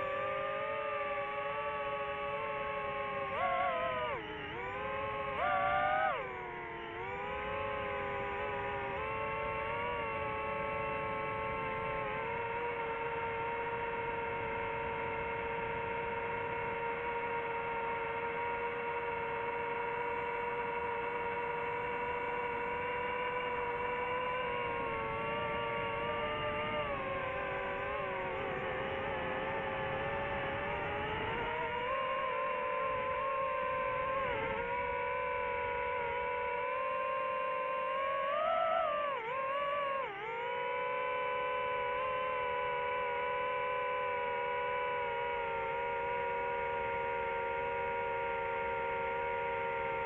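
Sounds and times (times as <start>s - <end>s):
drone propellers whining: 0.0s - 50.0s.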